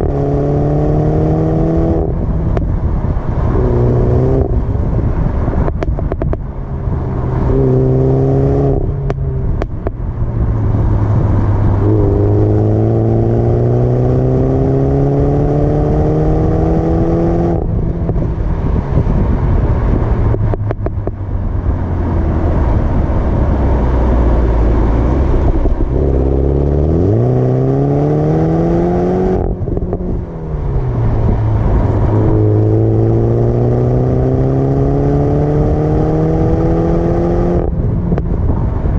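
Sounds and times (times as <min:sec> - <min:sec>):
car exhaust engine revving: 0:00.0 - 0:38.9.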